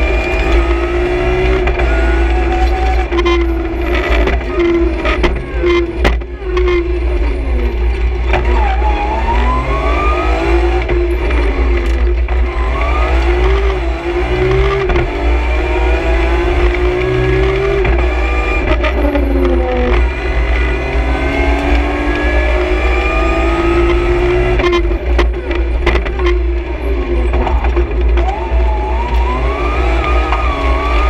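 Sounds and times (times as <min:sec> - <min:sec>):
car engine revving: 0:00.0 - 0:31.0
road and cabin rumble: 0:00.0 - 0:31.0.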